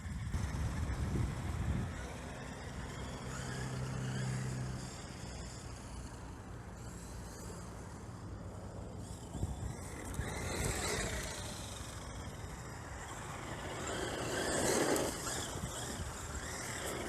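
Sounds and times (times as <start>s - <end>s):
electric rc truck motor: 0.0s - 17.0s.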